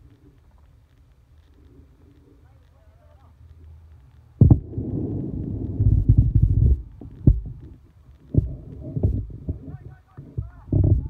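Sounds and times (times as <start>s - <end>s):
rumbling buffeting on microphone: 0.0s - 11.0s.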